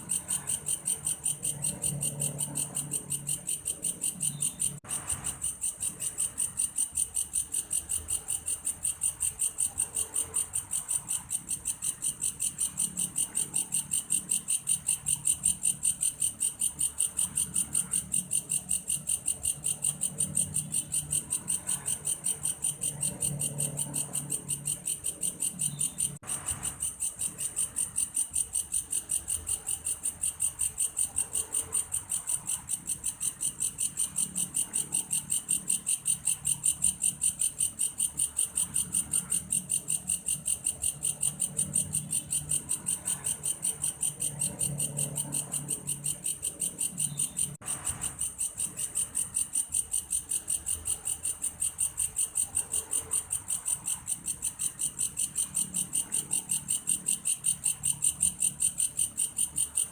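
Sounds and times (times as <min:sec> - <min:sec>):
insect trilling: 0:00.0 - 0:59.9.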